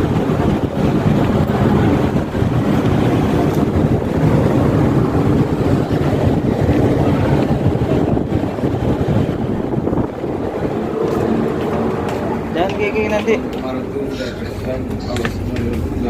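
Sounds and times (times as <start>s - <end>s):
ship engine drone: 0.0s - 16.0s
wind buffeting microphone: 0.0s - 16.0s.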